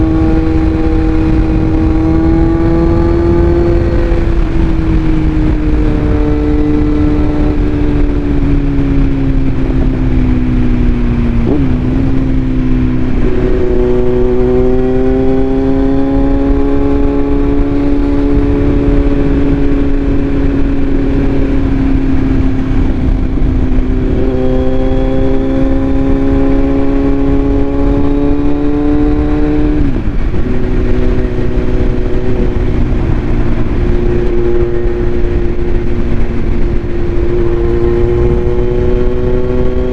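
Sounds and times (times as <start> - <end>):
loud motorcycle exhaust note: 0.0 - 39.9.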